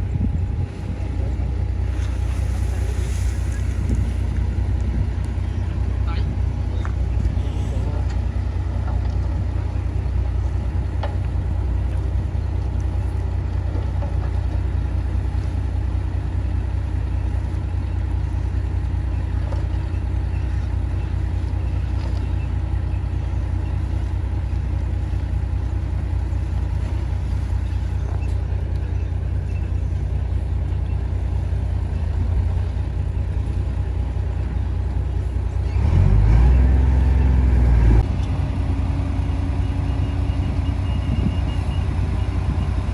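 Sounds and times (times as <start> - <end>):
heavy diesel machinery engine: 0.0 - 42.9.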